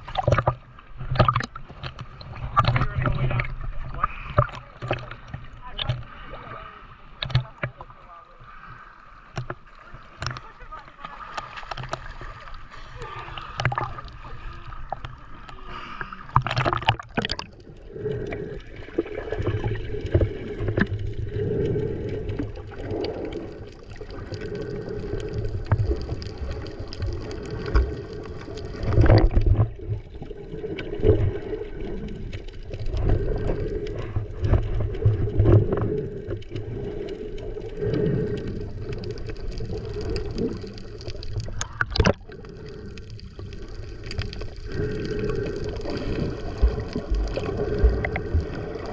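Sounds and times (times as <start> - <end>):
muffled water sloshing underwater: 0.0 - 48.9.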